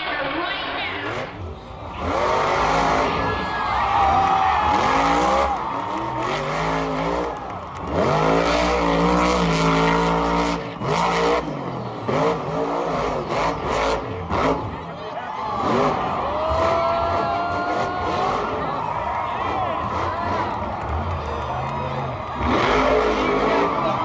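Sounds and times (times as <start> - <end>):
truck engine revving: 0.9 - 24.0.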